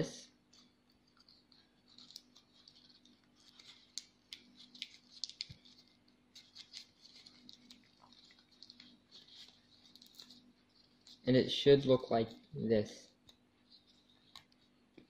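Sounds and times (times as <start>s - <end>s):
faint steady hum: 0.0s - 15.0s
paper crinkling and rustling: 0.4s - 14.8s.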